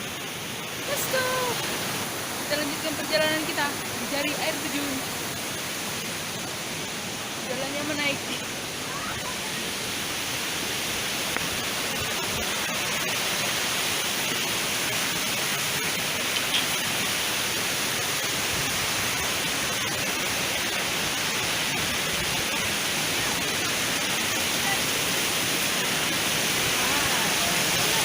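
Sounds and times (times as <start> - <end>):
flowing water rushing: 0.0 - 28.0.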